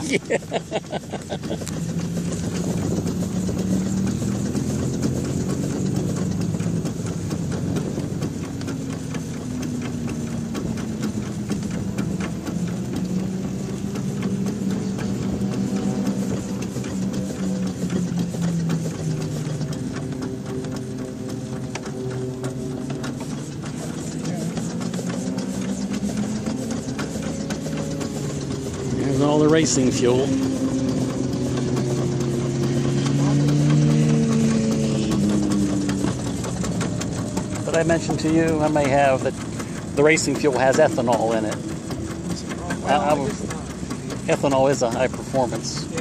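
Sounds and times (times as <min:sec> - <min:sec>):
steam engine clicking and humming: 0:00.0 - 0:46.0.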